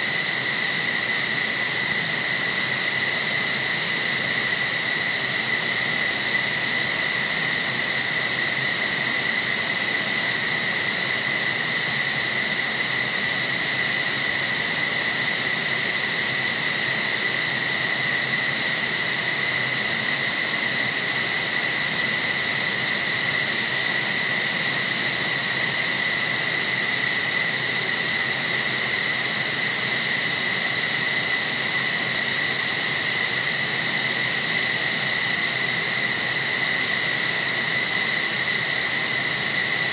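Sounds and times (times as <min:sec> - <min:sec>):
jet turbine whine: 0:00.0 - 0:39.9.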